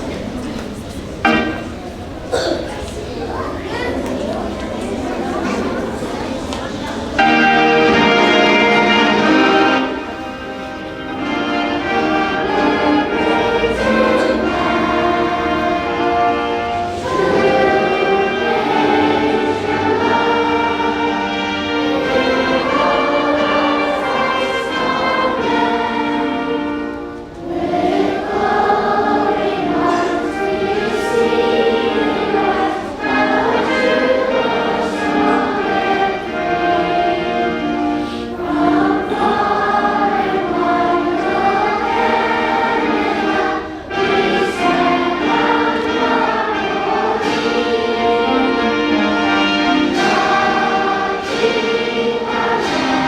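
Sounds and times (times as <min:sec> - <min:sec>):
orchestral accompaniment: 0:00.0 - 0:02.5, 0:05.0 - 0:53.0
choir singing: 0:00.0 - 0:53.0.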